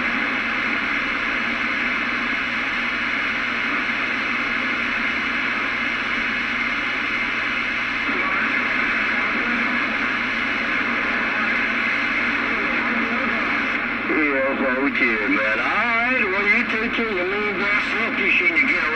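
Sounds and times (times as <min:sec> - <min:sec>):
radio static hiss: 0:00.0 - 0:18.9.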